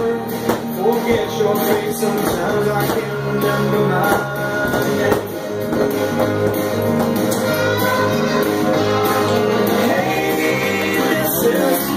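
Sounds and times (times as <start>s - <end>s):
pop-rock song with guitar: 0.0s - 11.9s.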